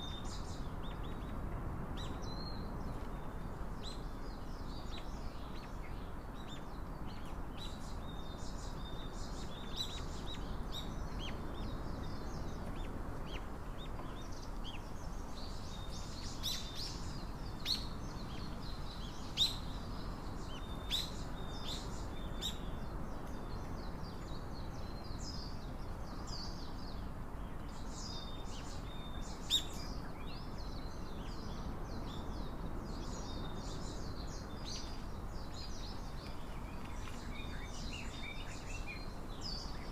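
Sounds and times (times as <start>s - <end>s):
low background hiss: 0.0s - 39.9s
small birds chirping: 0.0s - 39.9s.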